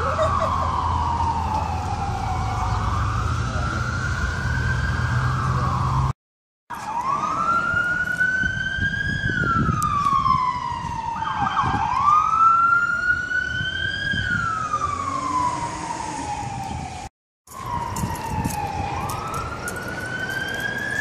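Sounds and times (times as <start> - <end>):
siren wailing: 0.0 - 6.1, 6.7 - 21.0
road traffic rumbling: 0.0 - 21.0.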